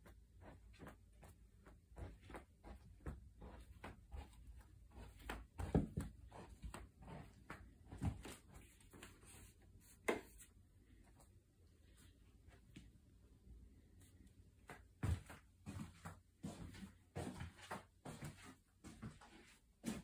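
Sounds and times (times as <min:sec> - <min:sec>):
footsteps walking indoors: 0:00.0 - 0:20.0.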